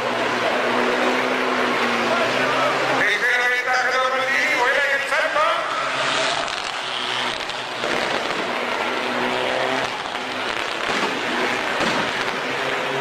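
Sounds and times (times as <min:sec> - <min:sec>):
rally car engines revving: 0:00.0 - 0:13.0
steady rushing noise: 0:00.0 - 0:13.0.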